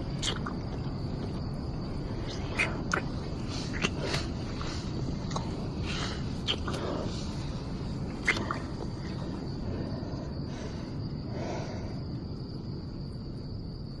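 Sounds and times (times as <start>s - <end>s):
crickets trilling: 0.0s - 14.0s
low background rumble: 0.0s - 14.0s.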